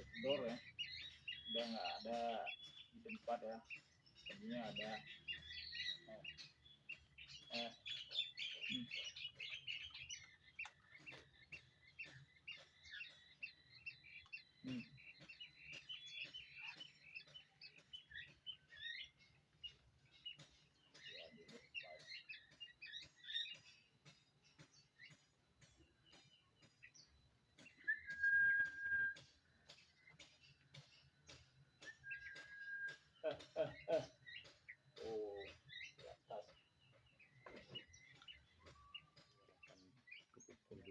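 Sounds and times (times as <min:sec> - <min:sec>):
young doves peeping: 0:00.0 - 0:40.9.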